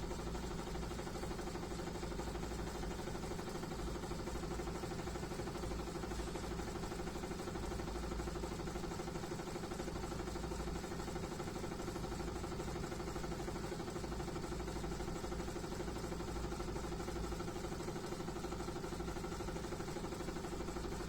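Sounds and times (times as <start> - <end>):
washing machine spinning hum: 0.0 - 21.0.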